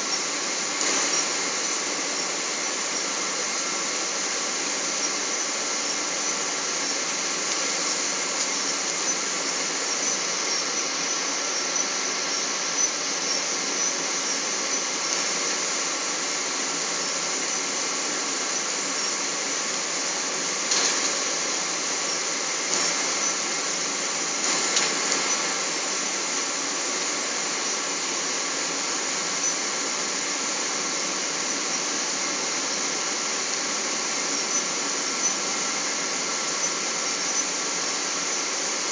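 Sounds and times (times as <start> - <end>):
faint steady whine: 0.0 - 38.9.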